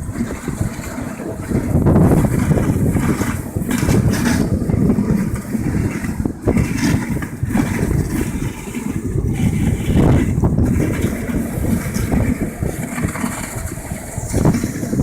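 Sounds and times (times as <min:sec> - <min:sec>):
sled jolts: 0:00.0 - 0:15.0
sled runners rumbling over snow: 0:00.0 - 0:15.0
wind buffeting microphone: 0:00.0 - 0:15.0.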